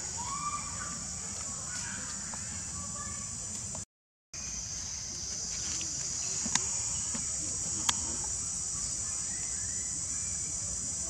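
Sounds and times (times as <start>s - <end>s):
insect chorus buzzing: 0.0s - 3.8s, 4.4s - 11.0s.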